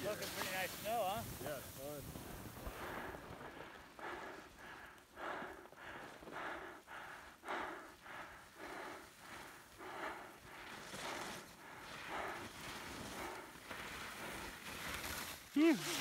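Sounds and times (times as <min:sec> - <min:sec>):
quick heavy breathing: 0:00.3 - 0:16.0.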